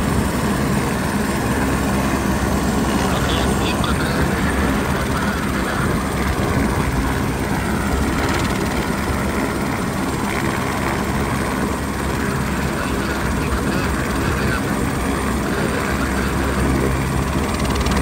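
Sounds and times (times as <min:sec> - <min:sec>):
helicopter turbine and rotor: 0:00.0 - 0:18.0.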